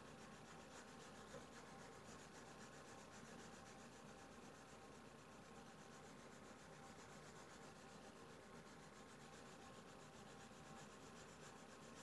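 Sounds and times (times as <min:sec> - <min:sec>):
pastel scratching on paper: 0:00.0 - 0:12.0.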